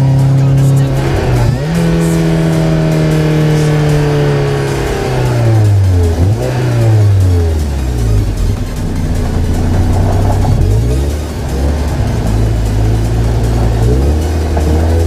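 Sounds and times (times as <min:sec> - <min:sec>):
loud car engine and exhaust: 0:00.0 - 0:15.0.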